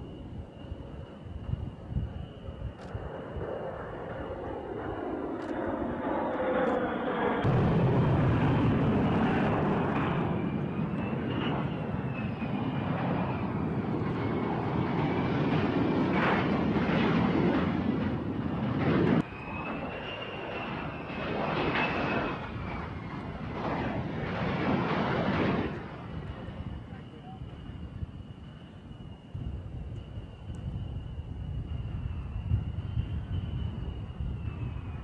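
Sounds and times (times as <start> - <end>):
faint high jet whine: 0.0 - 35.0
fighter jet taking off: 0.0 - 35.0.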